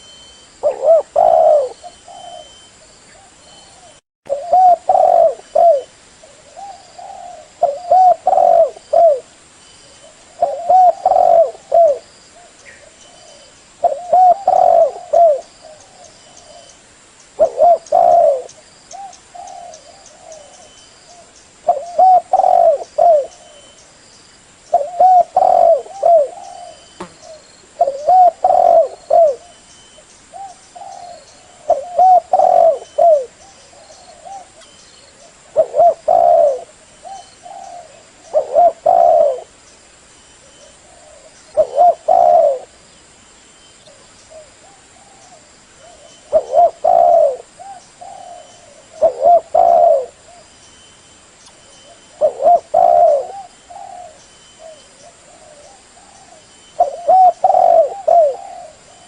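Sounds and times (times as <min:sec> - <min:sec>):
dove cooing: 0:00.0 - 0:09.3, 0:10.0 - 0:16.8, 0:17.4 - 0:23.7, 0:24.7 - 0:29.6, 0:30.3 - 0:39.6, 0:40.5 - 0:42.8, 0:43.8 - 0:50.5, 0:51.8 - 0:59.0.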